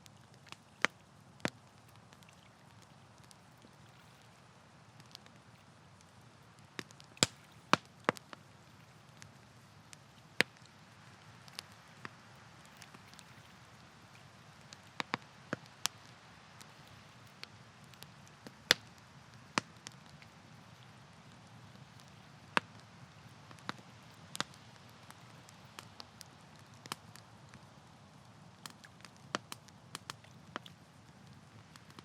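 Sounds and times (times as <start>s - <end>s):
campfire crackling and popping: 0.0s - 32.0s
faint steady hiss: 0.0s - 32.0s.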